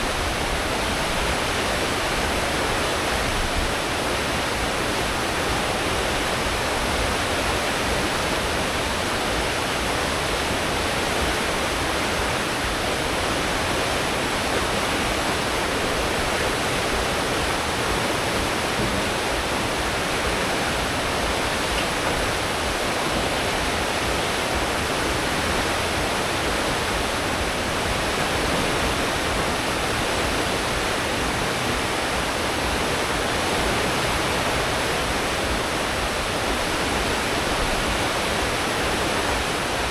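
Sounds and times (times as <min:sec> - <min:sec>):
ship wake water rushing: 0:00.0 - 0:39.9.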